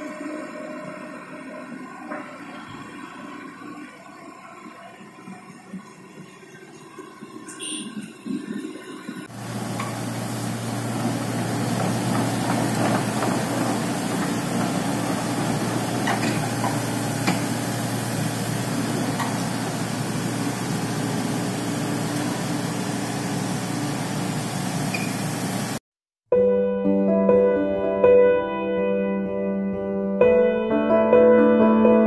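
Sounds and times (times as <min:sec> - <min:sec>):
excavator diesel engine running: 0:00.0 - 0:25.8.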